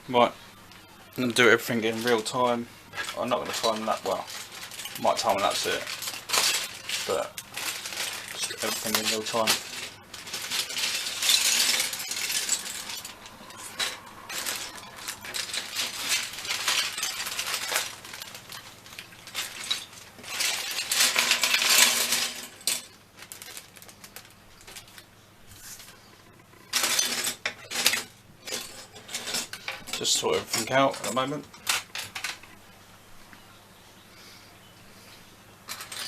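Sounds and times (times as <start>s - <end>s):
plastic parts clicking and clattering: 1.8s - 26.0s, 26.6s - 32.6s, 35.7s - 36.0s.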